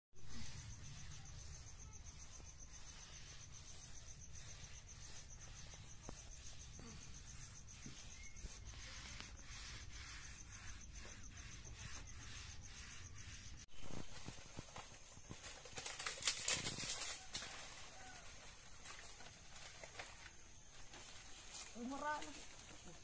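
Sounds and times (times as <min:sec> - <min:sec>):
high-pitched insect trill: 0:00.3 - 0:23.0.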